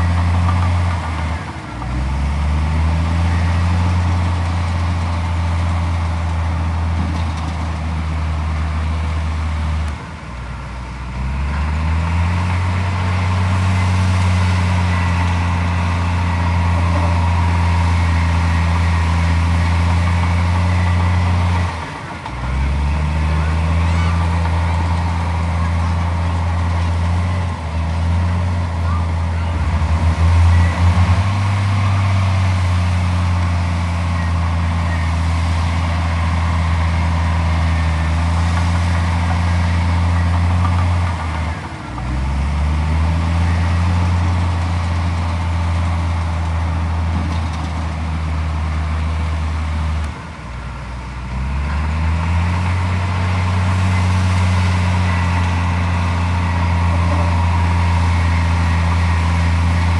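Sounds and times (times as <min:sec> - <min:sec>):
heavy diesel engine revving: 0:00.0 - 0:09.9, 0:11.0 - 0:50.3, 0:51.0 - 0:59.9.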